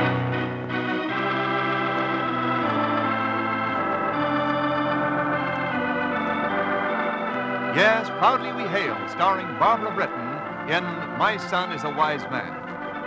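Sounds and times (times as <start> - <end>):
organ playing slow chords: 0.0 - 13.0.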